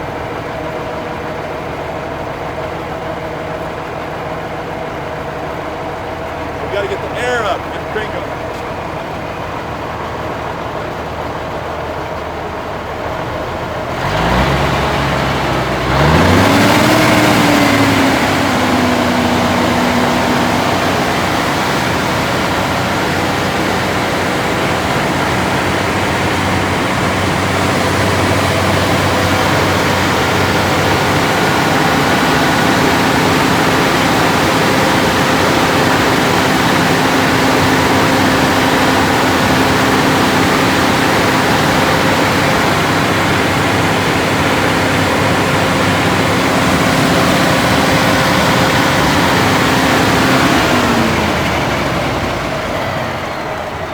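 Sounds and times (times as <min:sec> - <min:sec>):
diesel truck engine idling and revving: 0:00.0 - 0:53.9.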